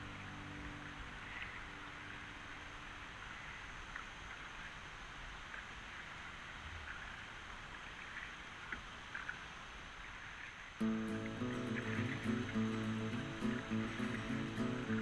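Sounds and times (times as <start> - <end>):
paddle splashes and drips: 0.0 - 15.0
steady hiss: 0.0 - 15.0.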